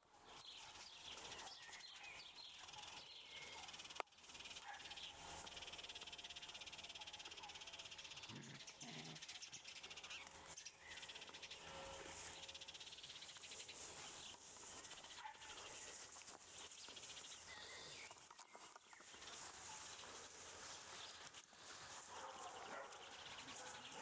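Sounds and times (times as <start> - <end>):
faint chirps: 0.0 - 24.0.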